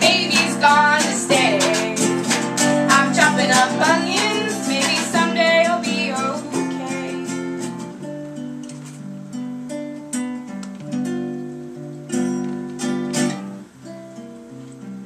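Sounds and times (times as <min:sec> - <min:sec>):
acoustic guitar strummed slowly: 0:00.0 - 0:15.0.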